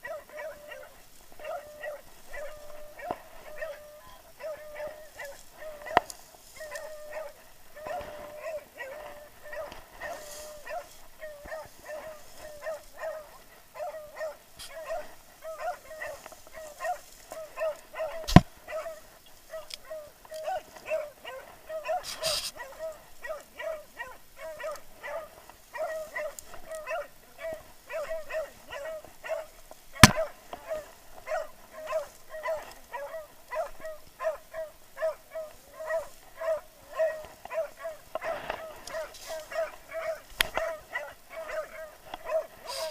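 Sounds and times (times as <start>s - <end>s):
hounds baying: 0.0s - 42.9s.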